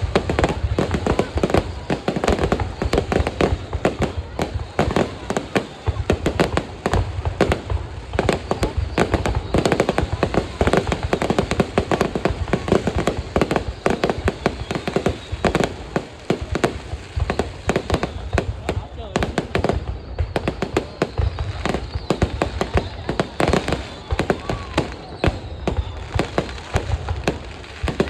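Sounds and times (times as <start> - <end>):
fireworks bangs and pops: 0.0 - 28.0.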